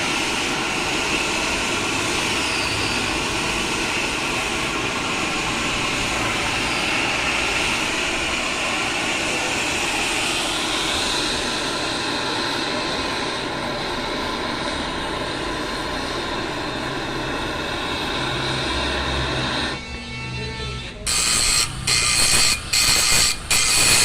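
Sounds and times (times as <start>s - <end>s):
machine running with high whine: 0.0s - 24.0s.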